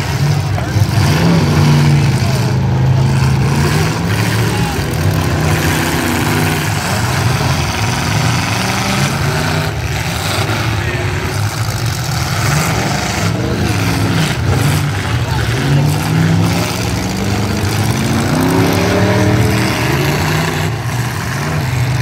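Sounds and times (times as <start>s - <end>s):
car engines revving: 0.0s - 22.0s
voices: 0.0s - 22.0s.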